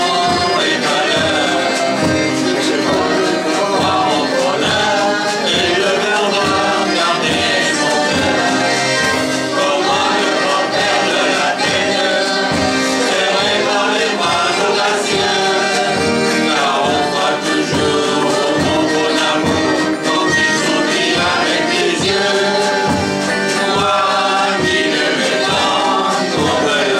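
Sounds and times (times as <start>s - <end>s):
accordion: 0.0s - 26.9s
acoustic guitar: 0.0s - 26.9s
drums playing a steady beat: 0.0s - 26.9s
group singing in unison: 0.0s - 26.9s.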